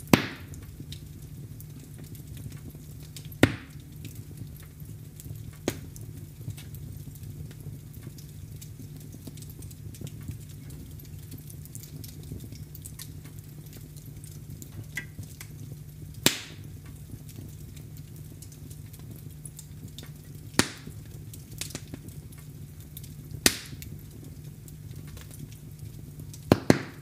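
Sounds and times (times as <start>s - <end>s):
sharp pops from fire: 0.0s - 27.0s
wood fire crackling: 0.0s - 27.0s.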